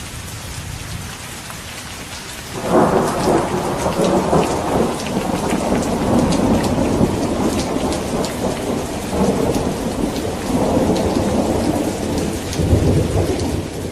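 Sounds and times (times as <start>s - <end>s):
heavy rain: 0.0s - 13.9s
rolling thunder: 2.6s - 13.9s.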